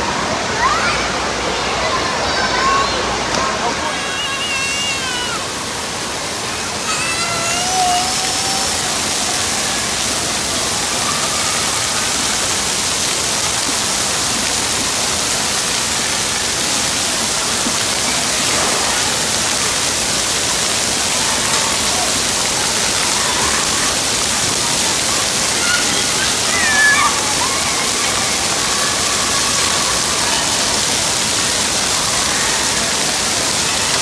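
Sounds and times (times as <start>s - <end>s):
water jets splashing on floor: 0.0s - 34.0s.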